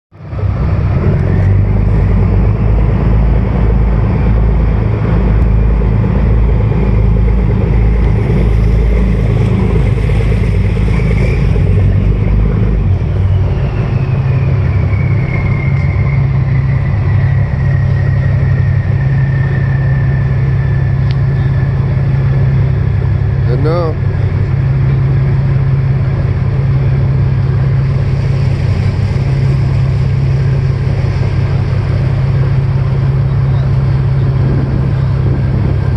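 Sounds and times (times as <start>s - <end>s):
boat engine running: 0.1s - 35.9s
faint high whine: 5.4s - 35.9s.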